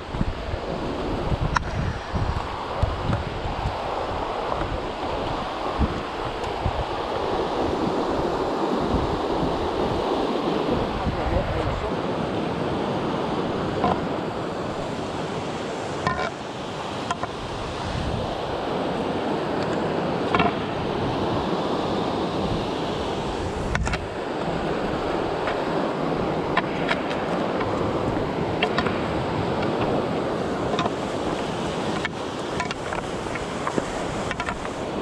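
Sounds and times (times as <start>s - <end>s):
river rapids rushing: 0.0s - 35.0s.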